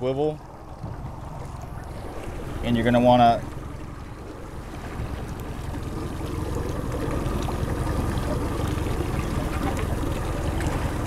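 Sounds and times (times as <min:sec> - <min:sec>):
boat engine drone: 0:00.0 - 0:11.0
water washing along hull: 0:00.0 - 0:11.0.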